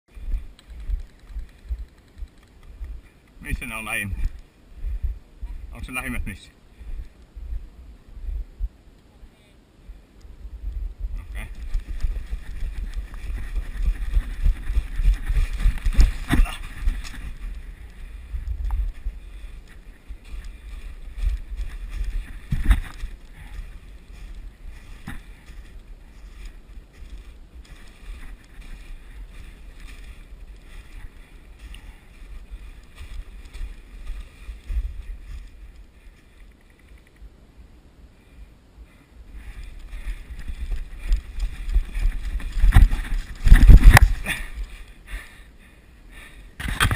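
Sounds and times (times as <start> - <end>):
wind rumbling on microphone: 0.1 - 9.0, 9.7 - 46.9.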